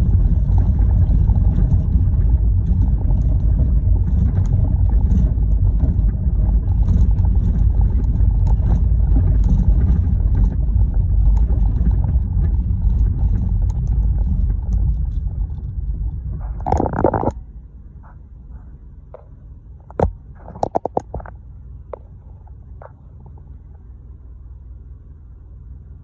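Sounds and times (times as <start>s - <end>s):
vehicle rumbling over gravel road: 0.0s - 26.0s.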